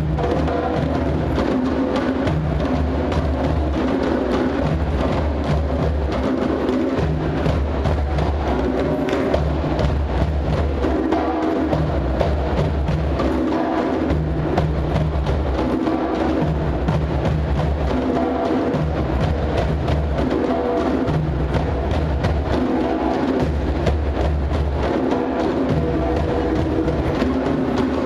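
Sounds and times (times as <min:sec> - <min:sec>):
wood-block-like percussion beat: 0:00.0 - 0:28.0.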